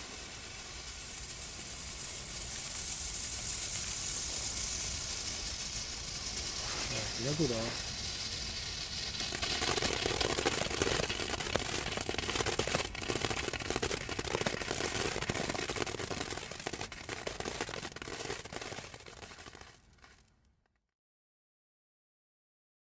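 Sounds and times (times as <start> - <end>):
sparkler crackling fizz: 0.0 - 20.3.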